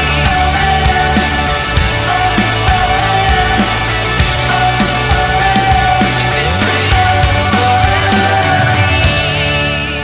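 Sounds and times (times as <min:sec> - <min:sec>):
rock song with dense guitars: 0:00.0 - 0:10.0.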